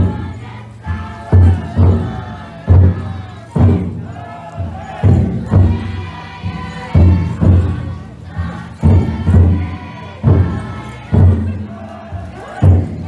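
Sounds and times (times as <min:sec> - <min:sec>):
bearers chanting: 0:00.0 - 0:13.0
taiko drum heavy beats: 0:00.0 - 0:13.0.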